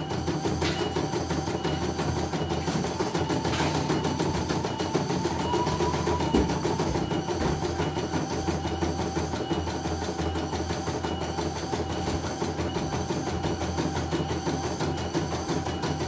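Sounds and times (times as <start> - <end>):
embroidery machine motor hum: 0.0 - 16.0.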